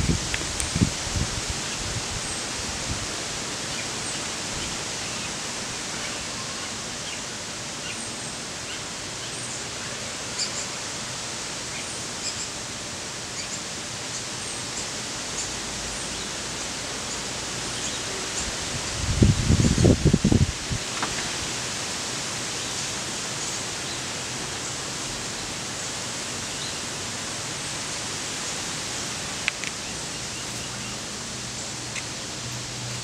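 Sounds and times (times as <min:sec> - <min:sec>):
rushing hiss of outdoor ambience: 0:00.0 - 0:33.0.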